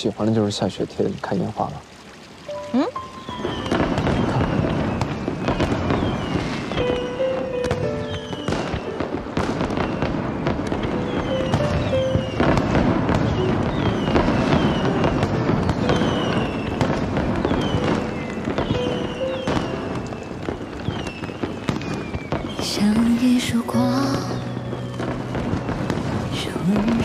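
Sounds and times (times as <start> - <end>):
background music: 2.5 - 4.0, 6.4 - 27.0
falling firework whistles: 3.0 - 27.0
fireworks bangs and crackling: 3.0 - 27.0.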